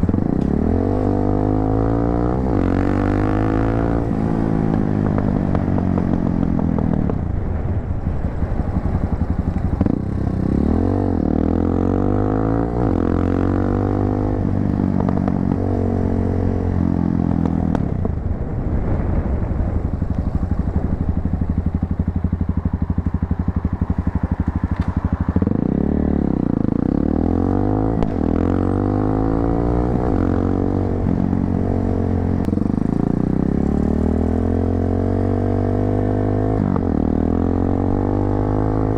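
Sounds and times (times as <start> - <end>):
motorcycle engine shifting gears: 0.0 - 18.3, 19.7 - 38.9.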